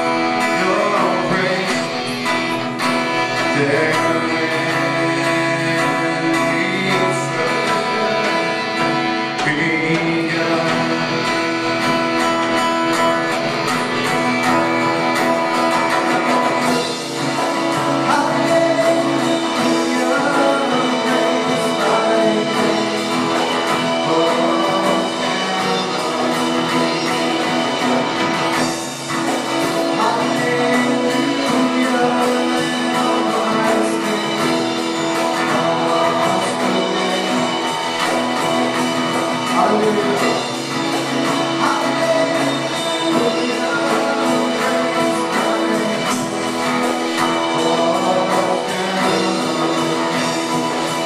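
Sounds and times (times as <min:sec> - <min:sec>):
guitar: 0:00.0 - 0:51.0
live band playing worship music: 0:00.0 - 0:51.0.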